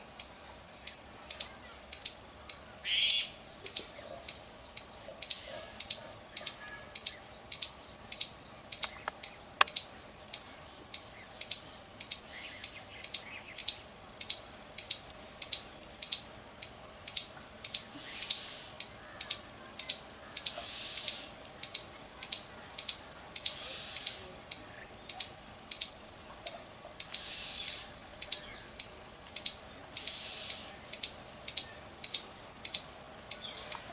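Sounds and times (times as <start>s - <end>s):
squirrel chirping call: 0.2s - 33.9s.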